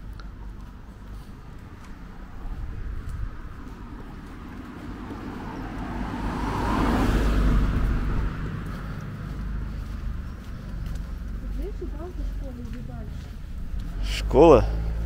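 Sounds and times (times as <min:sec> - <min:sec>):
car passing by: 0:00.3 - 0:15.0.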